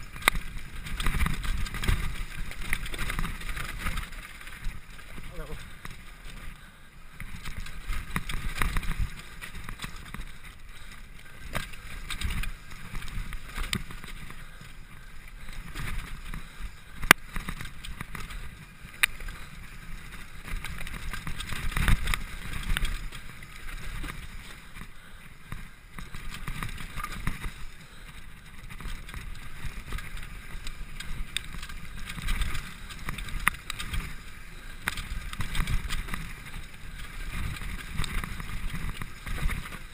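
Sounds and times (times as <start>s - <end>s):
bike rattling and clanking: 0.0s - 39.9s
tyres rumbling over dirt: 0.0s - 39.9s.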